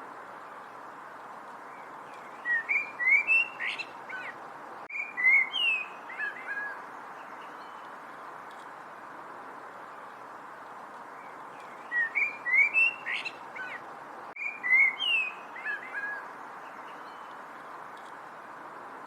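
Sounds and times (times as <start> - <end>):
steady background hiss: 0.0 - 19.0
songbird singing: 0.1 - 19.0.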